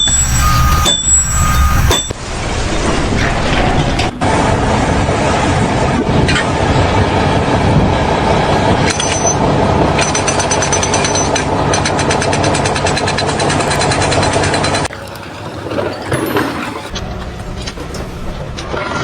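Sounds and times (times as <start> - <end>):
loud machinery running: 0.0 - 19.0.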